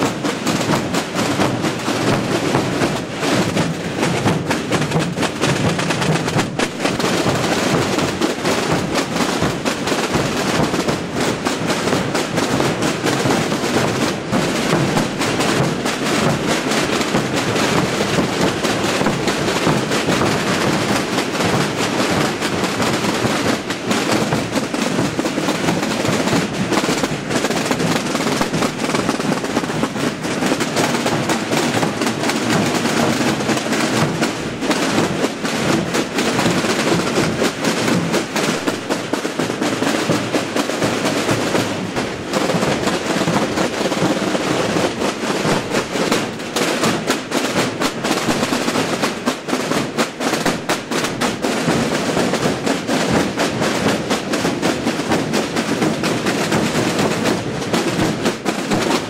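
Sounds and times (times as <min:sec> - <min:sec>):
snare drums and bass drums: 0:00.0 - 0:59.0.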